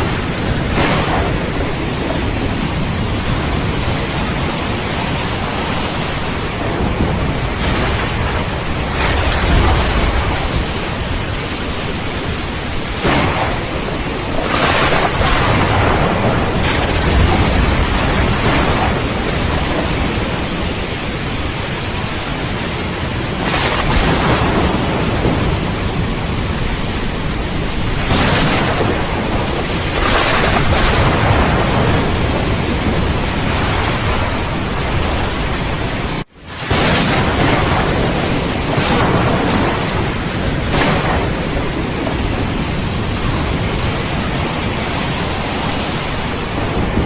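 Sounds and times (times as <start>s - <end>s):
heavy rain hissing: 0.0s - 47.0s
thunder rumbling: 0.0s - 47.0s.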